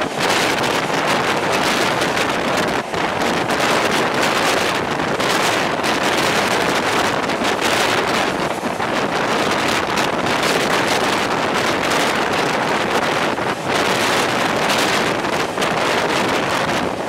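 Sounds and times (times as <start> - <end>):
train running at speed: 0.0 - 17.0
wind buffeting microphone: 0.0 - 17.0.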